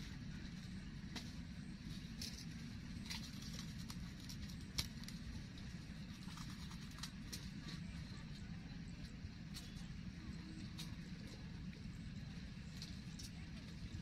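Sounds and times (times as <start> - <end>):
light clicks and crackles: 0.0 - 14.0
steady low rumble: 0.0 - 14.0.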